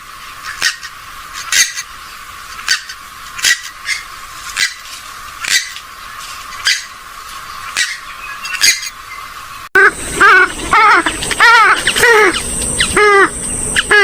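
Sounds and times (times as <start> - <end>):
water bird calling: 0.3 - 14.0.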